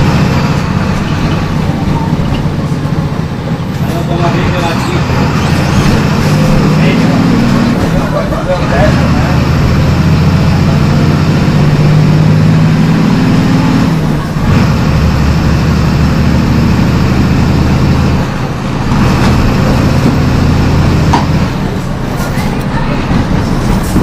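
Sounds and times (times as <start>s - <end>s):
turbodiesel bus engine pulling: 0.0s - 24.0s.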